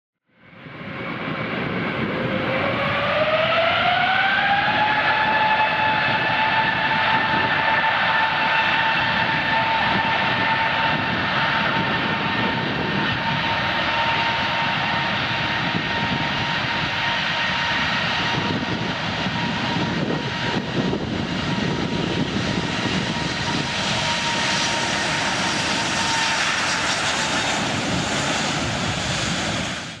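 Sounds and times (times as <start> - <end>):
airplane engines whining: 0.4 - 30.0.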